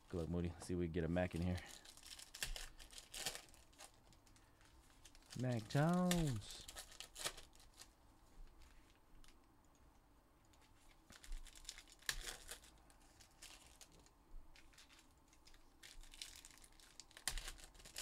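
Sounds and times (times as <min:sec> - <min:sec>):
foil wrappers crinkling and tearing: 0:01.2 - 0:09.4, 0:10.8 - 0:18.0.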